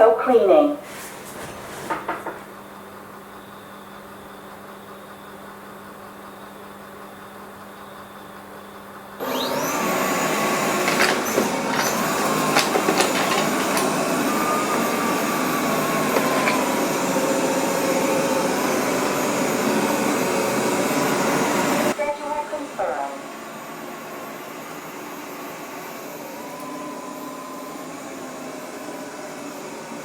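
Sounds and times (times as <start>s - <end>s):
vacuum suction motor whine: 2.6s - 30.0s.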